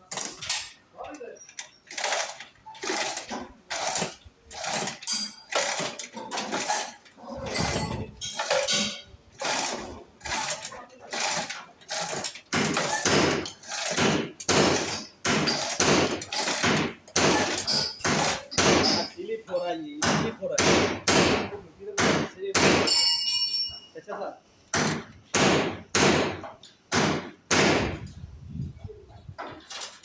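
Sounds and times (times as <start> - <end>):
hammer striking metal: 2.0 - 19.2, 20.0 - 24.0, 24.7 - 28.0.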